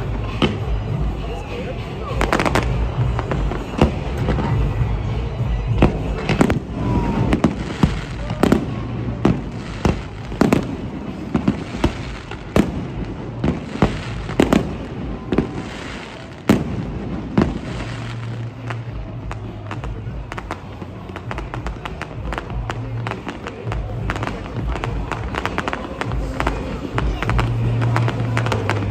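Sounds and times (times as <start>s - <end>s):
fireworks bursting: 0.0s - 28.9s.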